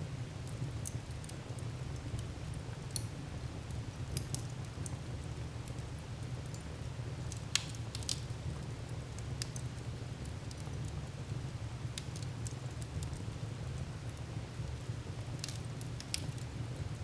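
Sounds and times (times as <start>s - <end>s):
wood fire crackling and popping: 0.4s - 17.0s.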